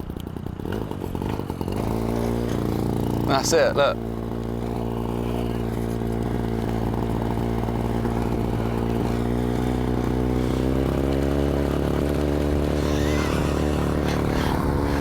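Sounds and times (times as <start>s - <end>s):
two-stroke moped engine running: 0.0s - 15.0s.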